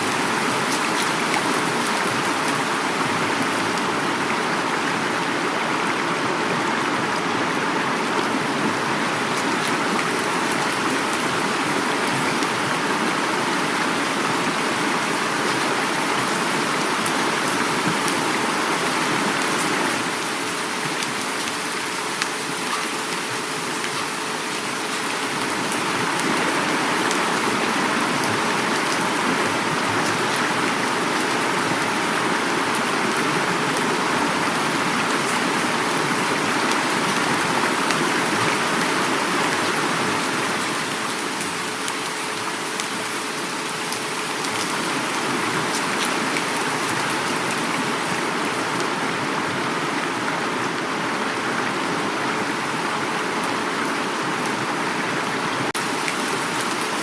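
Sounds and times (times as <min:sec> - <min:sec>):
flowing river water: 0:00.0 - 0:57.0
heavy rain: 0:00.0 - 0:57.0.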